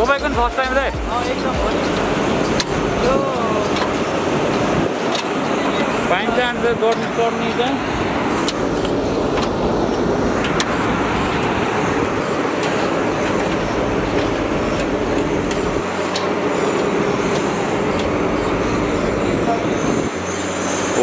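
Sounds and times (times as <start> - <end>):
machinery drone: 0.0 - 21.0.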